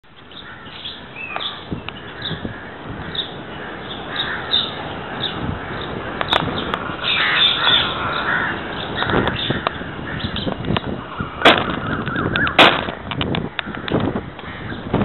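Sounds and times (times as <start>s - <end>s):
parrots squawking: 0.3s - 12.6s.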